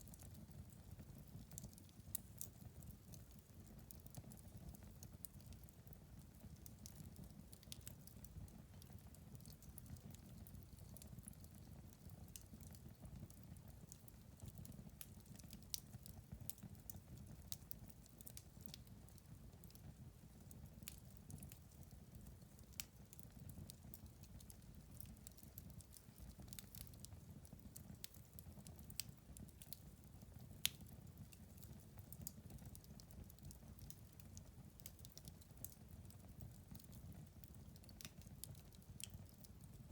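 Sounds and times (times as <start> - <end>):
fire crackling and popping: 0.0 - 39.9
low rumble of flames: 0.1 - 39.9.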